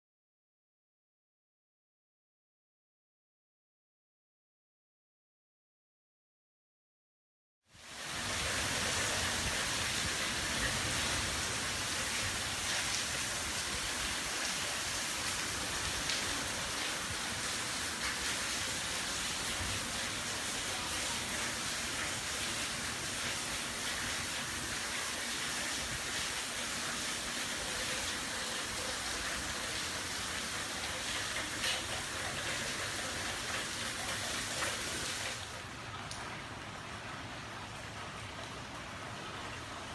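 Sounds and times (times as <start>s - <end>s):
heavy rain and wind hiss: 7.7s - 39.9s.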